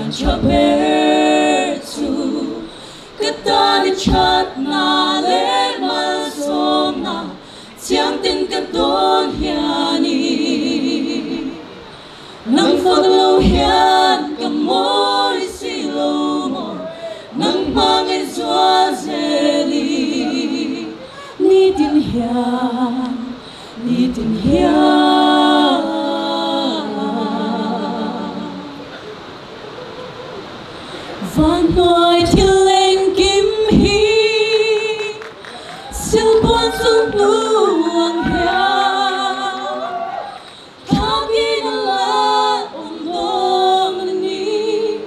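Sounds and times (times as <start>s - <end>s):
a cappella group singing: 0.0s - 29.4s, 31.0s - 45.0s.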